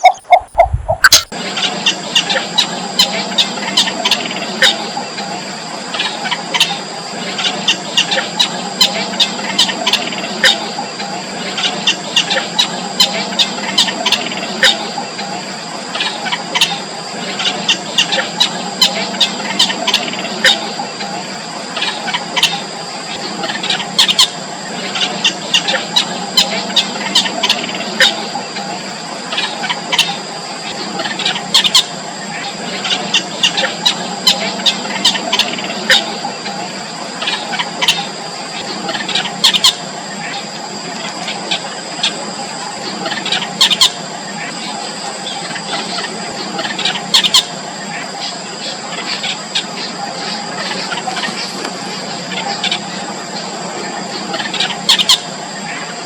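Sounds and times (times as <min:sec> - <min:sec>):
nestlings squeaky begging calls: 0:00.0 - 0:56.0
steady high-pitched tones: 0:00.0 - 0:56.0.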